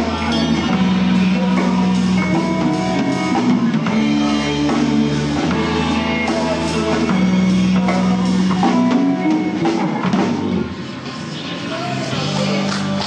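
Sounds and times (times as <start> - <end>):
drum kit: 0.0 - 13.0
electric guitars playing: 0.0 - 13.0
sustained bass notes: 0.0 - 13.0.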